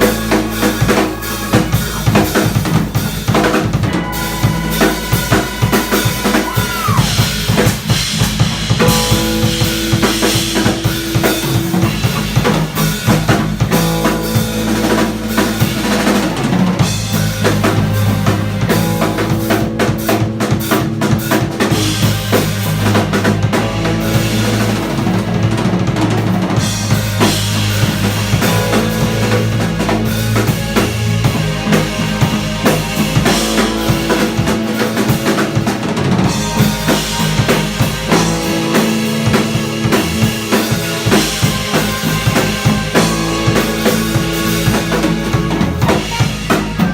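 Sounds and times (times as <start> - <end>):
bass notes: 0.0 - 46.9
drum kit: 0.0 - 46.9
funk band playing: 0.0 - 46.9
guitar lines: 0.0 - 46.9
piano: 0.0 - 46.9.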